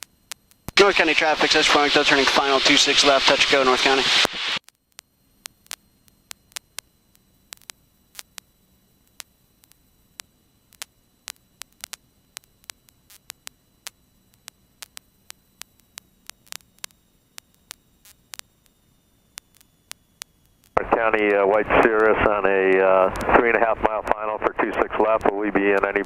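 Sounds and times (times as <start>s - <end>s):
faint hiss and low hum: 0.0s - 26.0s
radio static clicks and pops: 0.0s - 26.0s.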